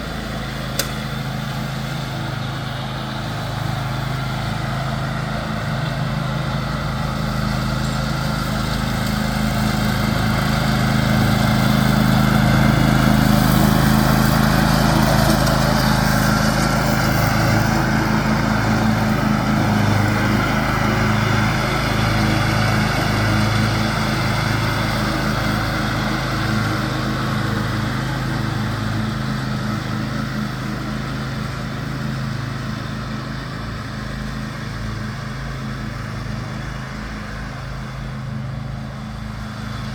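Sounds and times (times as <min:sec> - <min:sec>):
riding lawn mower running: 0:00.0 - 0:39.9.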